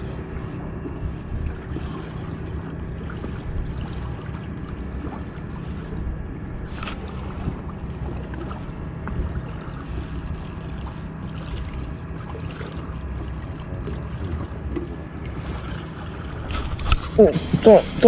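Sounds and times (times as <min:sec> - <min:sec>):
boat engine humming: 0:00.0 - 0:18.0
water noise: 0:00.0 - 0:18.0
wind: 0:00.0 - 0:18.0.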